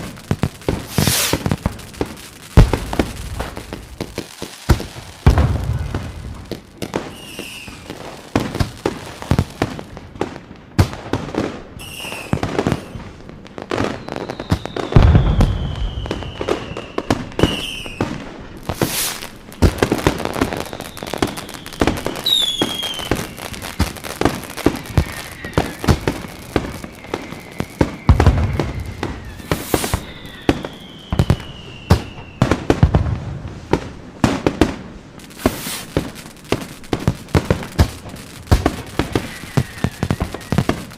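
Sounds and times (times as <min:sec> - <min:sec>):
falling firework whistles: 0:00.0 - 0:10.0, 0:11.2 - 0:40.9
deep firework booms: 0:00.0 - 0:11.5, 0:13.8 - 0:34.8, 0:35.4 - 0:40.9
fireworks bangs and crackling: 0:00.0 - 0:40.9.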